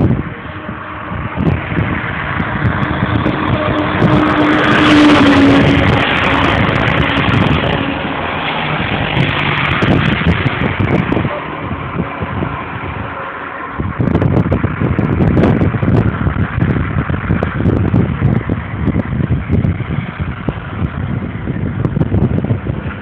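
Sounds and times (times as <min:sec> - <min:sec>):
steady rushing noise: 0:00.0 - 0:23.0
vehicle engine hum: 0:00.0 - 0:23.0.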